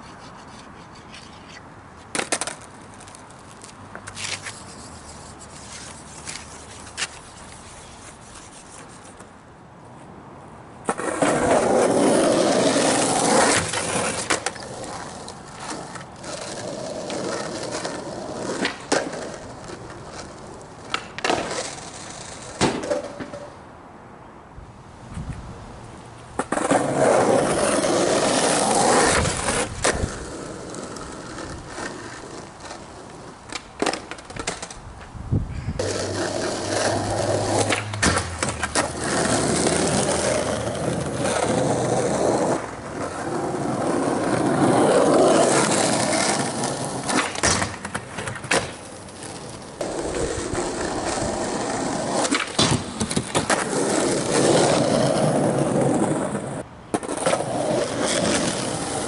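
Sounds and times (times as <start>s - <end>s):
skateboard clacking on ground: 0.0s - 9.4s, 10.8s - 23.6s, 26.4s - 35.2s, 35.8s - 59.0s
skateboard wheels rolling on asphalt: 0.0s - 59.0s.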